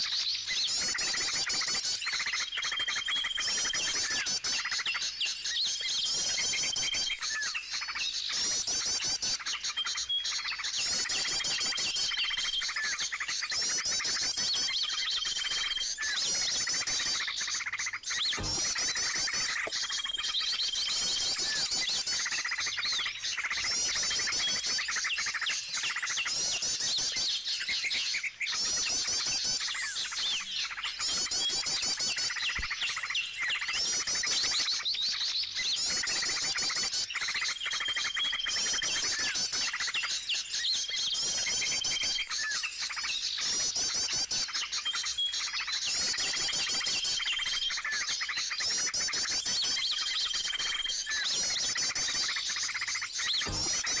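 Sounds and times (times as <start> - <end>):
small birds chirping in trills: 0.0 - 54.0.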